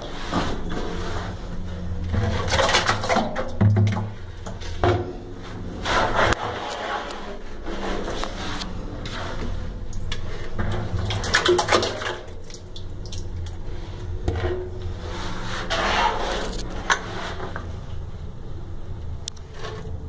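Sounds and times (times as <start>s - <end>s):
water splashing and sloshing: 0.0s - 18.2s
steady low hum: 0.0s - 20.0s.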